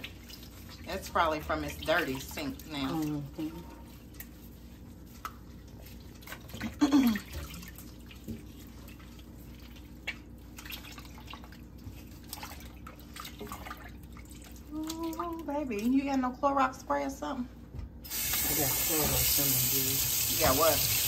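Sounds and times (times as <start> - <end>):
water splashing in a sink: 0.0 - 16.2, 18.0 - 21.0.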